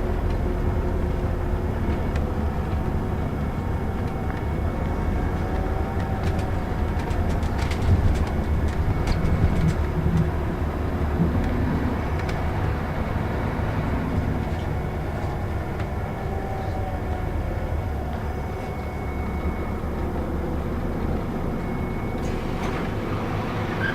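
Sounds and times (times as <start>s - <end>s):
bus engine and road rumble: 0.0s - 23.9s
faint whine: 0.0s - 23.9s.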